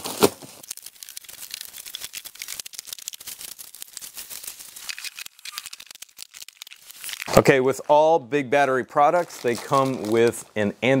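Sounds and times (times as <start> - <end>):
plastic stretch wrap crinkling: 0.0 - 10.6.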